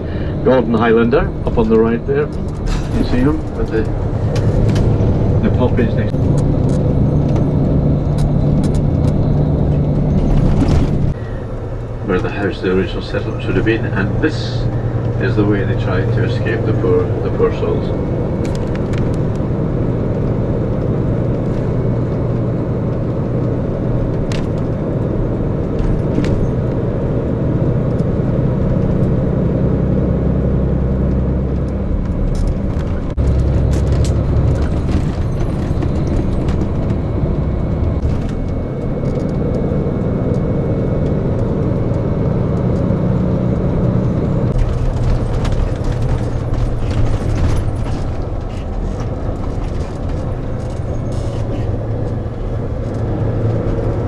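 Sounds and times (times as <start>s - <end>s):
coach engine and road noise: 0.0s - 54.0s.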